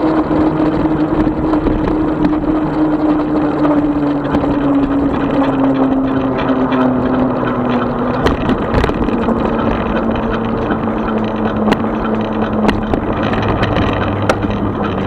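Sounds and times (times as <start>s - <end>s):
electric motor hum: 0.0s - 15.0s
wind and road noise: 0.0s - 15.0s.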